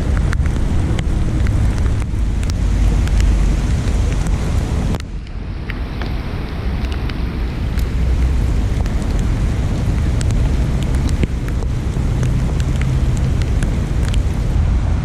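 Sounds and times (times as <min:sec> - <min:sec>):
rain ticking on camera: 0:00.0 - 0:15.0
wind buffeting microphone: 0:00.0 - 0:15.0.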